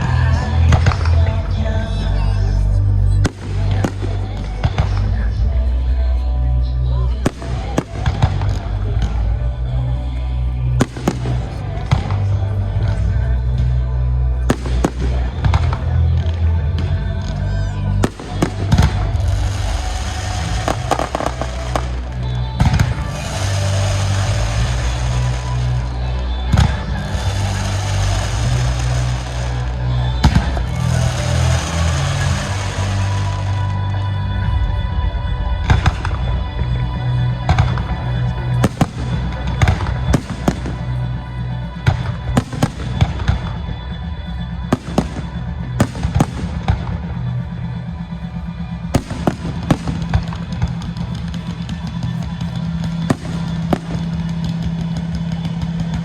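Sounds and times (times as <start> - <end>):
fireworks bangs and crackles: 0.0 - 2.2, 3.2 - 5.8, 7.1 - 13.8, 14.4 - 56.0
loud music with heavy bass: 0.0 - 56.0.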